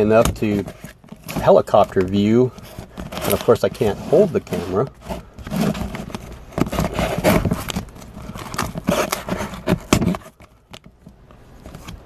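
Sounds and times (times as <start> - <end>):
hands scraping cardboard box: 0.0 - 10.6.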